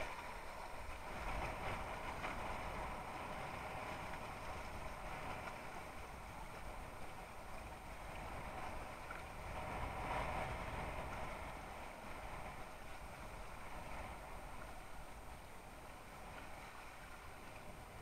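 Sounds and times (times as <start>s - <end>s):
water rushing along board hull: 0.0s - 18.0s.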